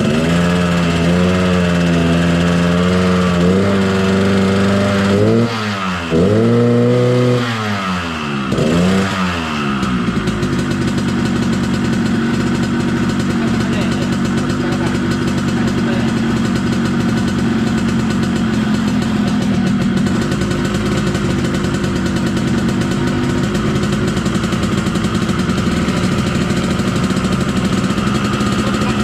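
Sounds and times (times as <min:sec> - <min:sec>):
two-stroke motorcycle engine idling: 0:00.0 - 0:29.0.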